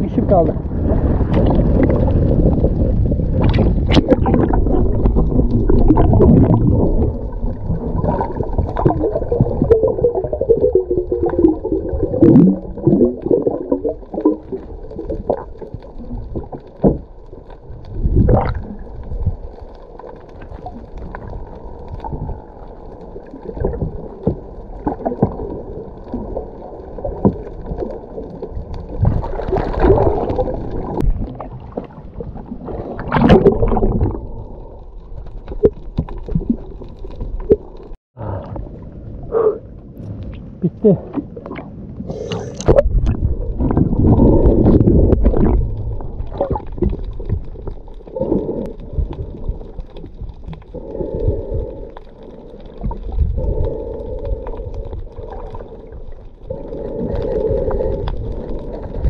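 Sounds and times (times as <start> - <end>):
underwater gurgling: 0.0 - 59.0.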